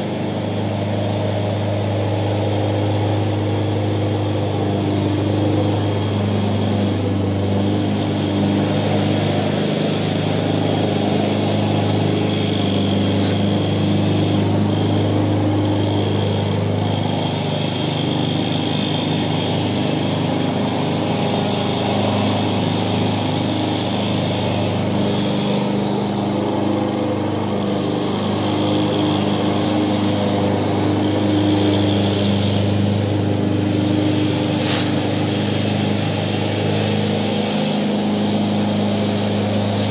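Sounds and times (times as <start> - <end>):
lawn mower running: 0.0 - 39.9.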